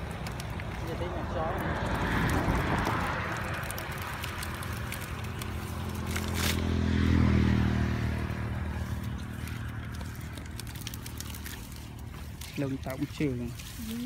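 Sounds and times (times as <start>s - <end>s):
low engine hum: 0.0s - 14.0s
weeds and net rustling on grass: 0.0s - 14.0s.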